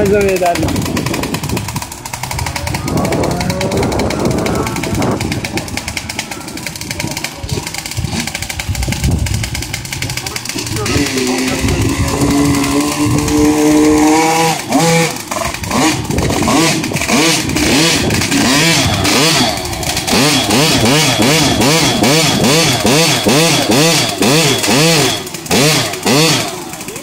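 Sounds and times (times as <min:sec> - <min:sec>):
small engine revving: 0:00.0 - 0:27.0.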